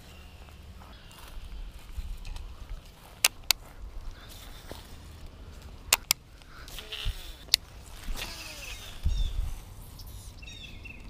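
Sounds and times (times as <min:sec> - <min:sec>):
low rumbling: 0:00.0 - 0:11.0
small birds chirping: 0:00.0 - 0:11.0.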